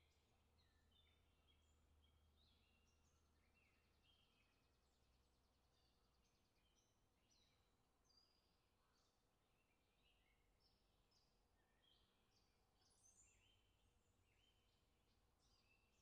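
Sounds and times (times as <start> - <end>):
faint bird chirps and calls: 0.0 - 16.0.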